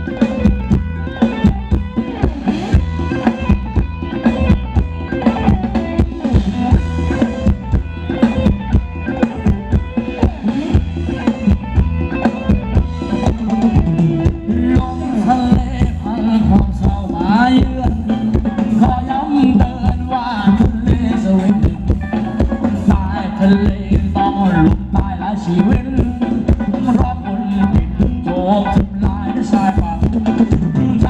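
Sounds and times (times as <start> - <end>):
live band dance music: 0.0 - 31.0.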